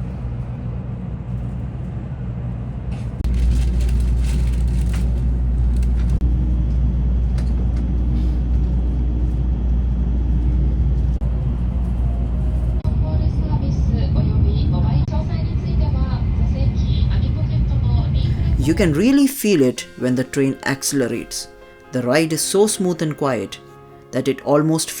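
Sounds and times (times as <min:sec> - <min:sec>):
train low rumble: 0:00.0 - 0:22.1
faint train whine: 0:00.0 - 0:22.4.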